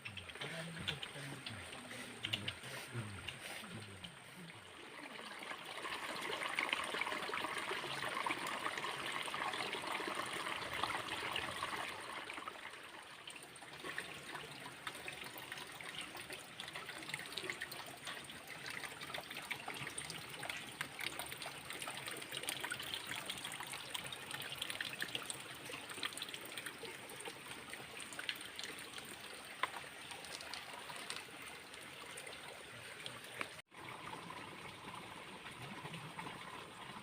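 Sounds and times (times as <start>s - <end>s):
water trickling and splashing: 0.0s - 37.0s.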